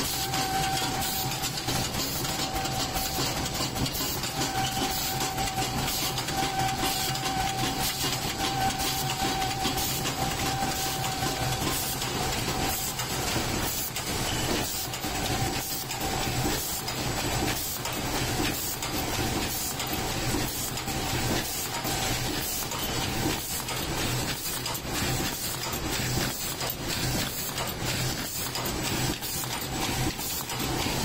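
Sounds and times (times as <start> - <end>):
forming machine clattering: 0.0 - 31.0.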